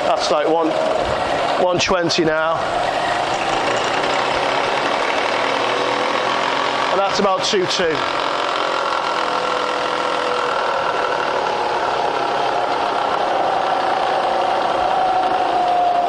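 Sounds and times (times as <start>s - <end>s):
milling machine motor hum and whine: 0.0s - 1.9s, 2.6s - 16.0s.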